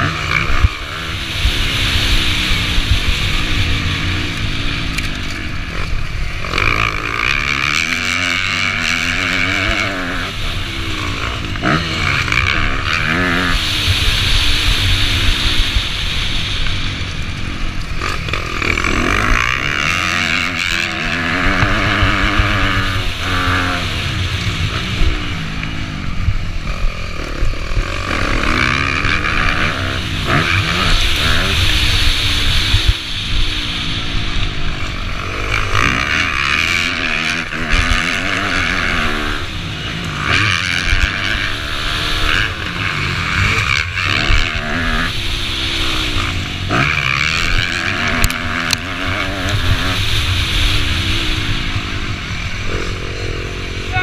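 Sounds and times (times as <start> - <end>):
dirt bike engine revving: 0.0 - 54.0
wind rushing over microphone: 0.0 - 54.0.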